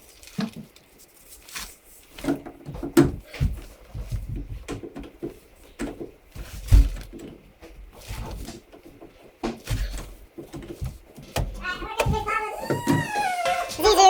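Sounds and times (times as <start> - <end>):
objects knocking and clunking: 2.1 - 14.0.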